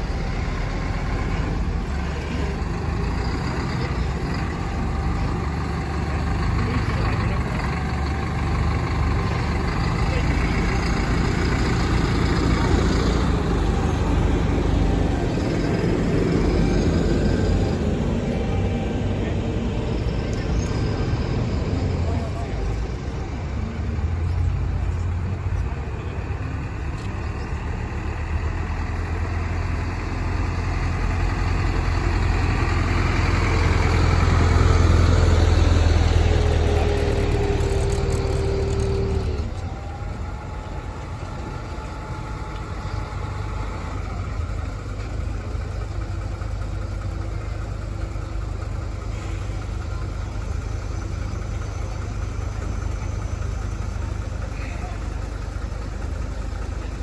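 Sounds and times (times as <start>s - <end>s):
diesel engines idling: 0.0s - 57.0s
engine whine: 0.0s - 57.0s
fire truck engine passing: 0.0s - 57.0s.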